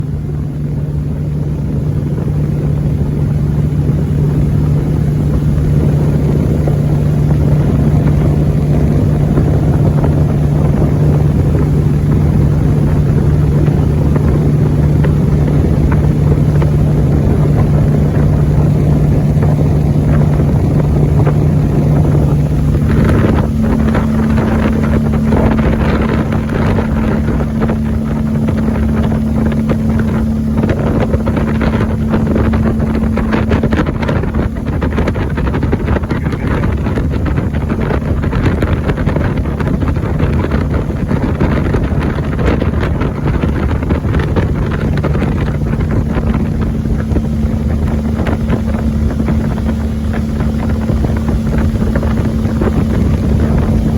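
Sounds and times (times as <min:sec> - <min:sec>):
boat engine running: 0:00.0 - 0:53.9
water rushing: 0:00.0 - 0:53.9
wind buffeting microphone: 0:00.0 - 0:53.9.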